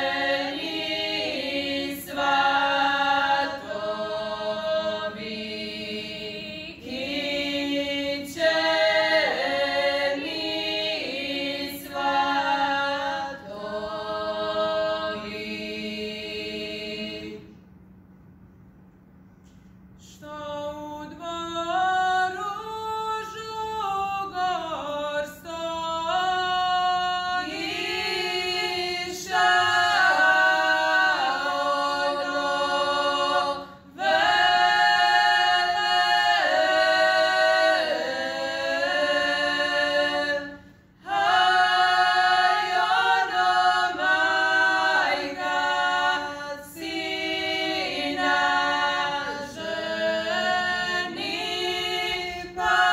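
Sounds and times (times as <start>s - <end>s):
women singing a cappella: 0.0s - 17.7s, 20.0s - 52.9s.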